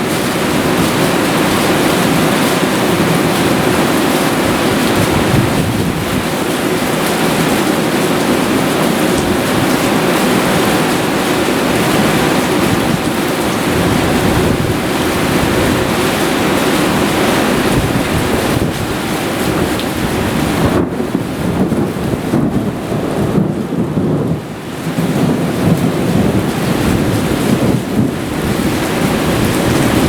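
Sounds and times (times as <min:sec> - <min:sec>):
heavy rain downpour: 0:00.0 - 0:30.0
wind buffeting microphone: 0:00.0 - 0:30.0.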